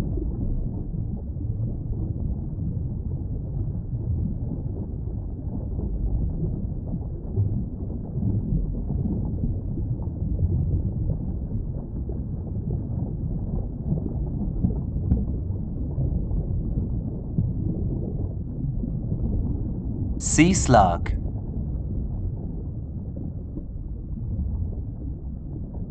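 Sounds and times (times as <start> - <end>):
muffled water rumble: 0.0 - 20.5, 21.2 - 25.9.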